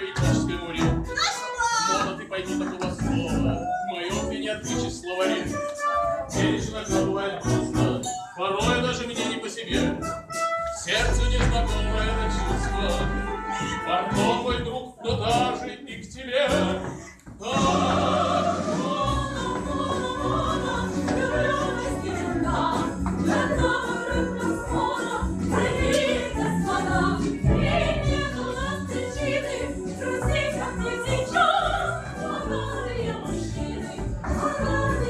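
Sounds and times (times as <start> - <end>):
choir-like voices singing: 0.0 - 10.0, 10.9 - 35.0.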